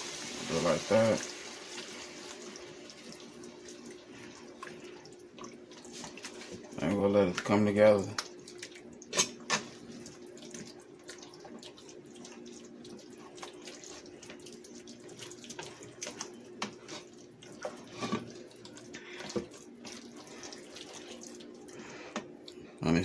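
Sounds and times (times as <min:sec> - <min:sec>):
gravy bubbling in pan: 0:00.0 - 0:22.5.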